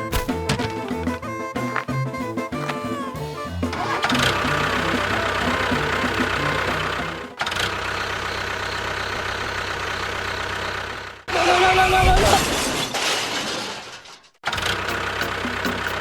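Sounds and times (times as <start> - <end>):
small engine running: 0.0 - 11.6, 14.5 - 16.0.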